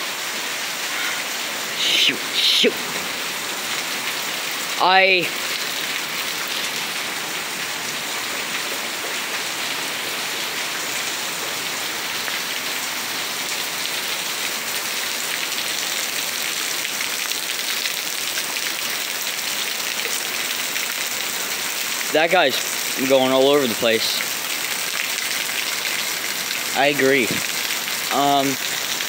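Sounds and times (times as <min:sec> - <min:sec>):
heavy rain hissing: 0:00.0 - 0:16.8, 0:17.4 - 0:29.0.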